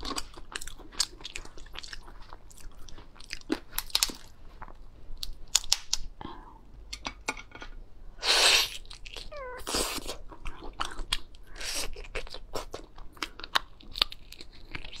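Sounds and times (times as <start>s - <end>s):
shell crunching while eating: 0.0s - 6.1s, 8.7s - 15.0s.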